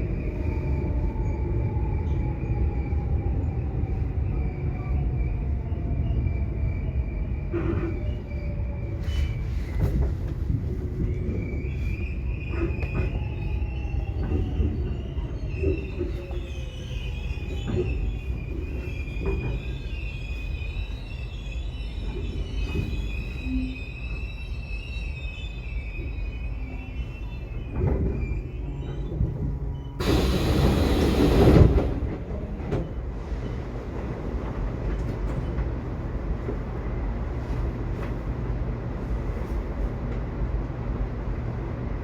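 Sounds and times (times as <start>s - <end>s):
train wheels squealing: 0.0s - 36.4s
subway train rumbling: 0.0s - 42.0s.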